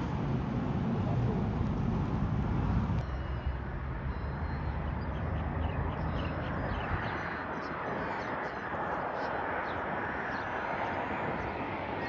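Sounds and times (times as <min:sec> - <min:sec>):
noisy wash: 0:00.0 - 0:12.0.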